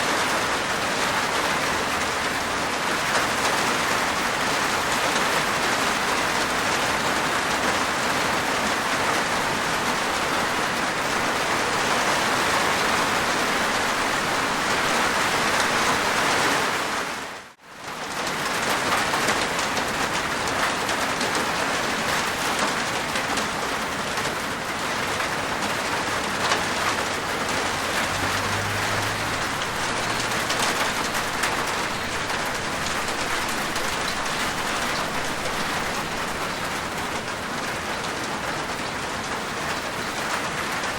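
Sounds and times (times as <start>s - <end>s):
rain on a rooftop: 0.0s - 40.9s.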